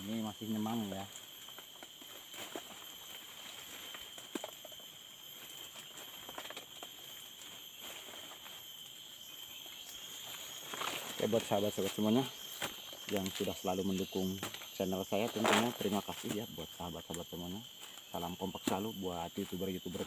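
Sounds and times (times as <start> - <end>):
high-pitched insect drone: 0.0 - 20.0
rustles and clicks of branches: 0.0 - 20.0.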